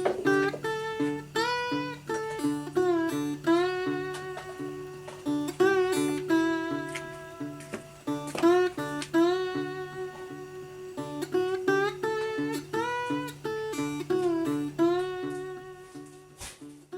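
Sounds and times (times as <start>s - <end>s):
plucked string instrument melody: 0.0s - 16.9s.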